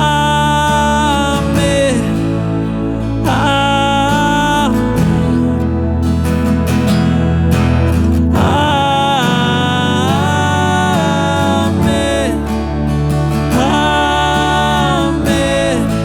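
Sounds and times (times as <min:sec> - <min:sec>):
person singing long wordless notes: 0:00.0 - 0:07.0, 0:08.2 - 0:16.0
acoustic guitar: 0:00.0 - 0:16.0.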